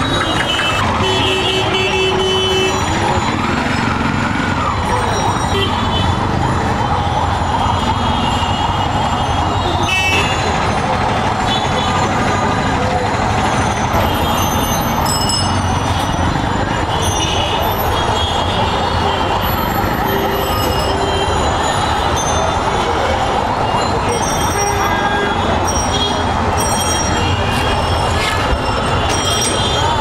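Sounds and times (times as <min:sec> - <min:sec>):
street traffic din: 0:00.0 - 0:30.0.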